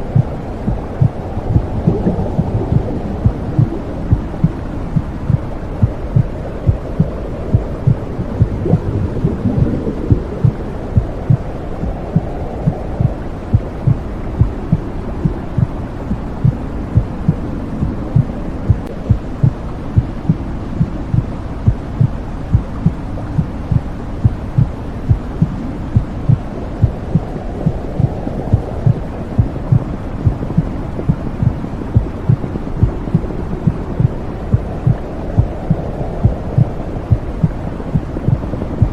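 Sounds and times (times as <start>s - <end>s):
heartbeat thumps: 0.0s - 38.9s
low whooshing: 0.0s - 38.9s.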